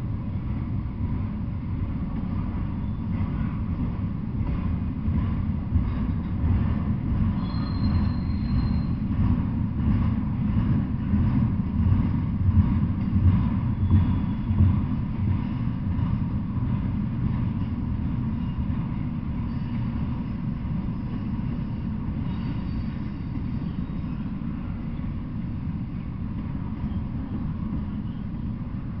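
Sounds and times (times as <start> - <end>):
freight train rumbling on rails: 0.0 - 29.0.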